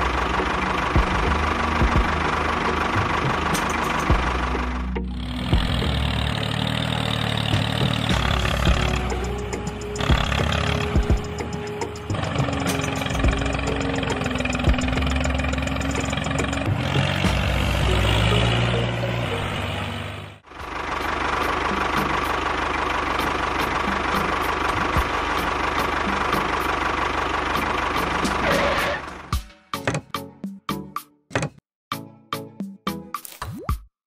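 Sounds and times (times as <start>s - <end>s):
model tractor motor whining: 0.0s - 29.3s.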